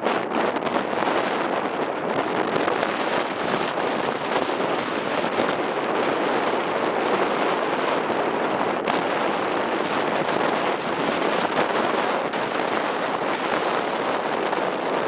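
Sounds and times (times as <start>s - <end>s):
boat running: 0.0s - 15.0s
strong wind on microphone: 0.0s - 15.0s.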